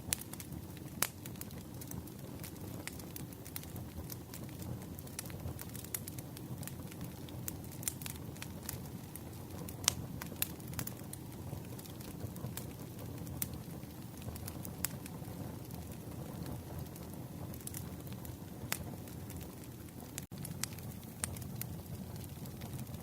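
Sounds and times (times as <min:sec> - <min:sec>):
campfire low rumble: 0:00.0 - 0:23.0
fire crackling and popping: 0:00.0 - 0:23.0.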